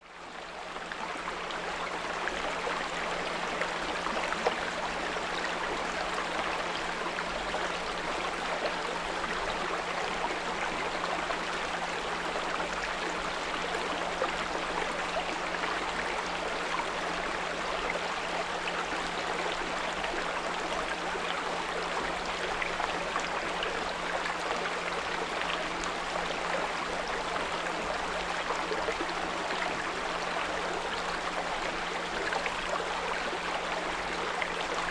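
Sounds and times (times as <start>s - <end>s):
brook trickling: 0.0s - 34.9s.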